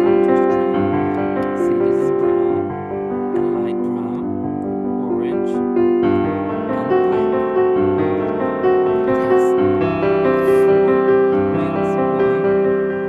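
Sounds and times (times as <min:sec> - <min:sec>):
slow keyboard melody: 0:00.0 - 0:13.0.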